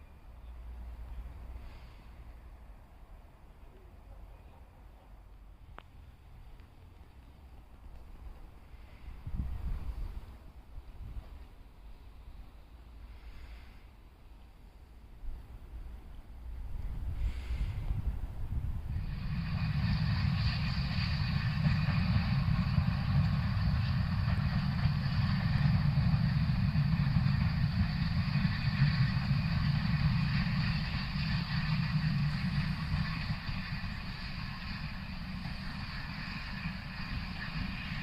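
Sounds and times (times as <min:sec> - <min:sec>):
steam locomotive rumbling past: 0:00.0 - 0:38.0
steam hiss: 0:00.7 - 0:02.6, 0:08.2 - 0:38.0.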